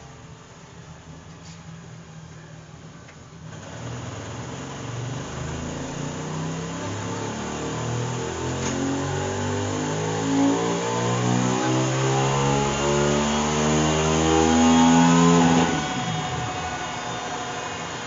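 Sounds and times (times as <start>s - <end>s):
motorcycle engine revving under load: 3.4s - 18.0s.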